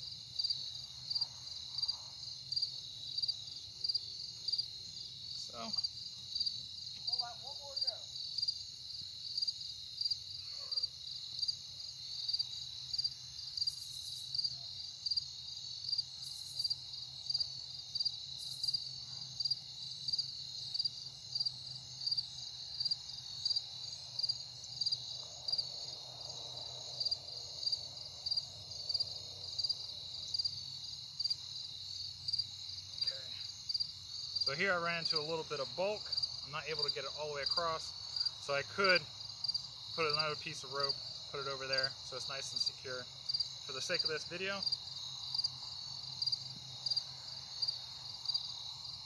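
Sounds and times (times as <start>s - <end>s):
crickets chirping: 0.0s - 49.0s
high insect trill: 0.0s - 49.0s.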